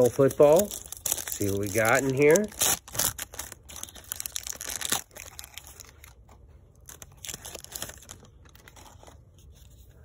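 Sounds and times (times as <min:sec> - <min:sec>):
wrapper ripping: 0:00.0 - 0:06.2, 0:06.8 - 0:09.2
wrapper rustling and crackling: 0:00.0 - 0:09.3.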